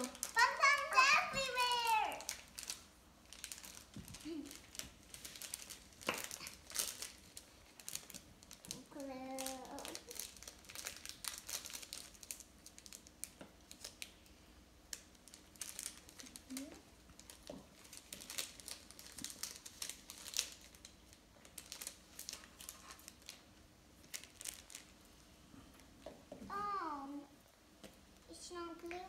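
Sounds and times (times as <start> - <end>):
paper and foam crinkling: 0.0 - 14.2, 14.9 - 25.1.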